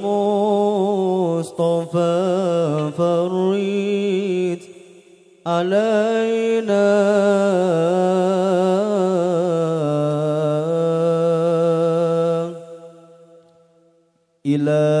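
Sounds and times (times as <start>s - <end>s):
amplified man chanting: 0.0s - 13.8s, 14.4s - 15.0s.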